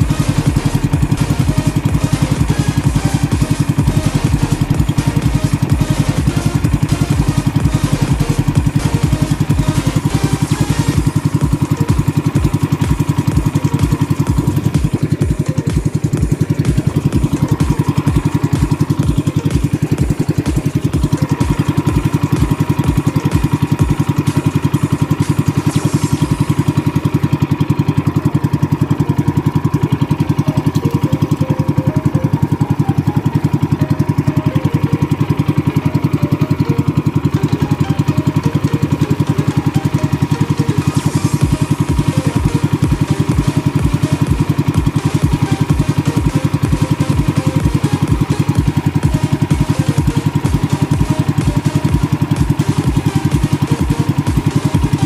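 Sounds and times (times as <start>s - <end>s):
boat engine chugging: 0.0s - 55.0s.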